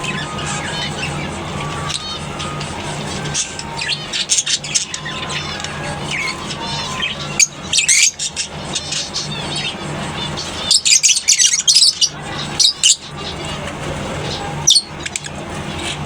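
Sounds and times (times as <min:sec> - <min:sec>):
lovebirds chattering: 0:00.0 - 0:16.0.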